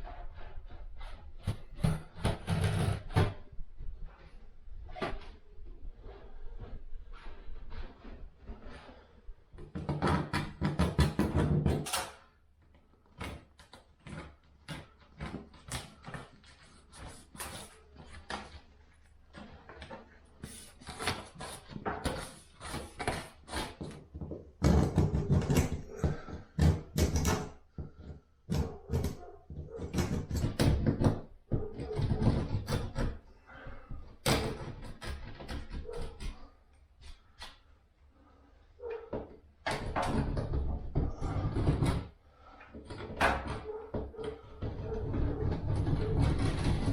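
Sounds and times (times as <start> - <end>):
renovation knocking and scraping: 0.0 - 46.9.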